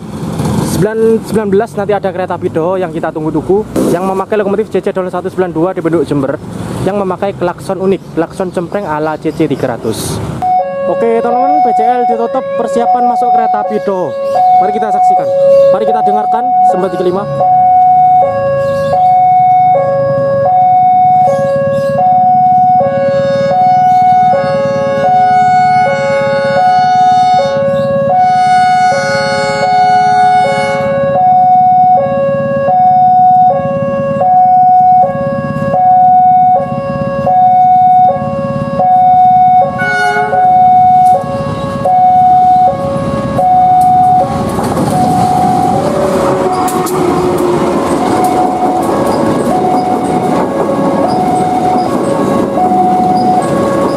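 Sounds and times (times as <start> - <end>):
train rumbling: 9.9 - 53.9
level crossing two-tone alarm: 10.4 - 53.9.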